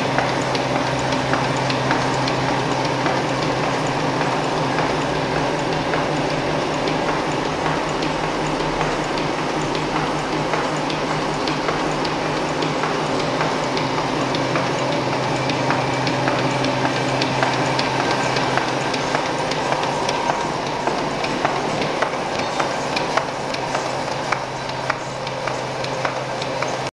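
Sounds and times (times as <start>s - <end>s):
low machine hum: 0.0s - 26.9s
sharp machine clicks: 0.0s - 26.9s.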